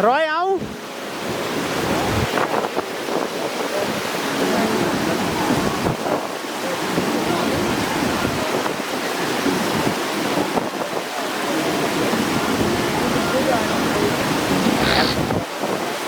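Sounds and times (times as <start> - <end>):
mountain water rushing: 0.0 - 16.0
wind on microphone: 0.6 - 16.0.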